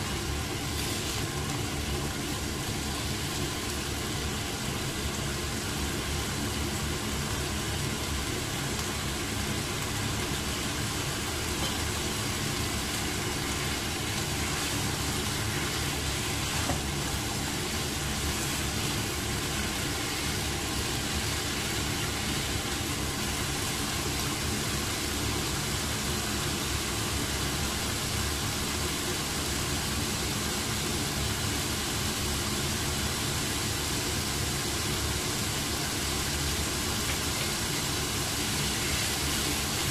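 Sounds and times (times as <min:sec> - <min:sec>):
food stir-frying in a pan: 0:00.0 - 0:39.9.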